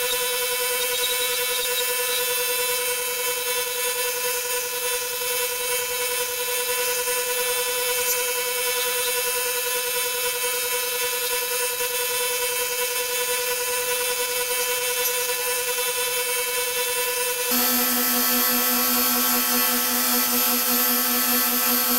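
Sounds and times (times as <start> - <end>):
lathe motor whining: 0.0 - 21.9.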